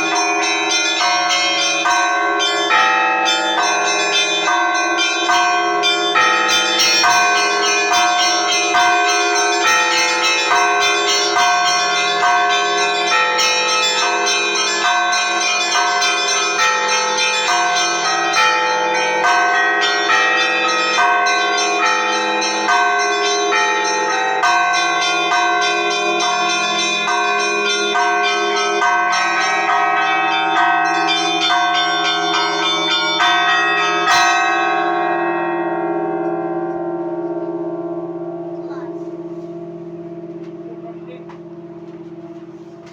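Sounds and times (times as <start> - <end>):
large bells ringing: 0.0 - 42.9.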